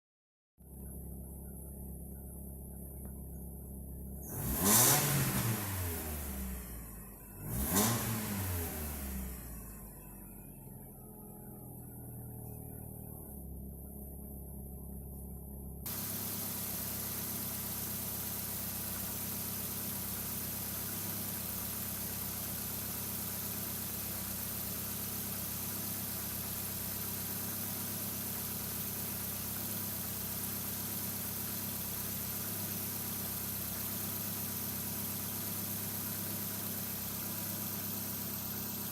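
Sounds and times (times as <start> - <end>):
car engine idling: 0.6 - 38.9.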